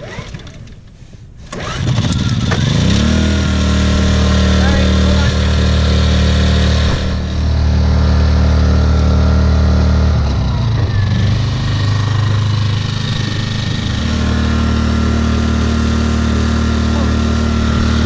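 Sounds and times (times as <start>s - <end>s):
small petrol generator running: 1.4s - 18.0s.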